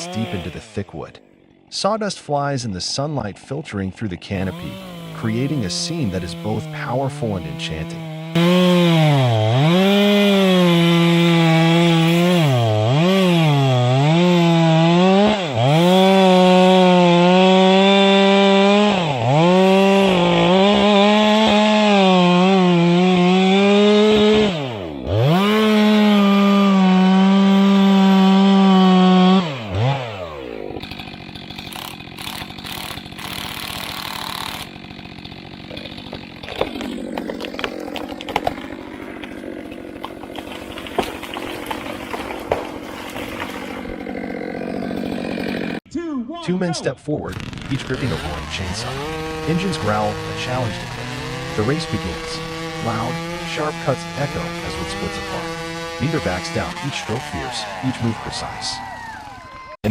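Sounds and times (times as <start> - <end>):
chainsaw cutting wood: 0.0 - 1.8, 4.0 - 45.9, 47.3 - 59.9.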